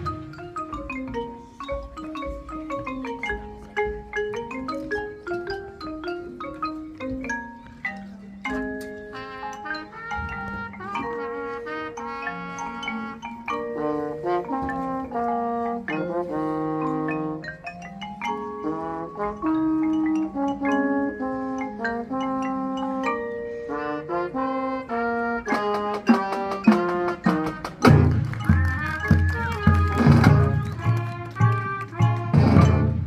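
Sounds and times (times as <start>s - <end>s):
marching band playing: 0.0s - 4.6s, 8.5s - 17.6s, 18.2s - 23.1s, 23.7s - 33.0s.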